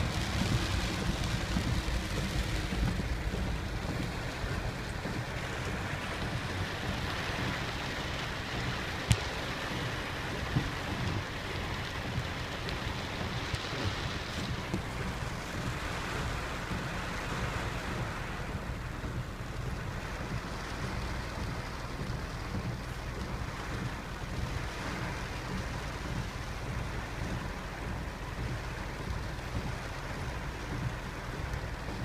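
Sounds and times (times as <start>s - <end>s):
swollen river: 0.0s - 32.0s
wind and rain rushing: 0.0s - 32.0s
wind rumbling on microphone: 0.0s - 32.0s.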